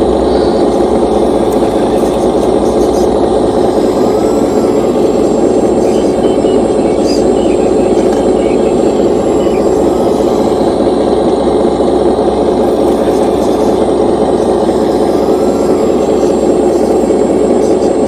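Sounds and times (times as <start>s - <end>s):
hydraulic pump droning: 0.0s - 18.0s.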